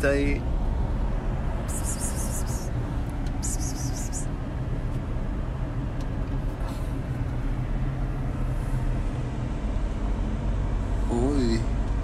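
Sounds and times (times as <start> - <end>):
engine and traffic rumble: 0.0 - 12.0.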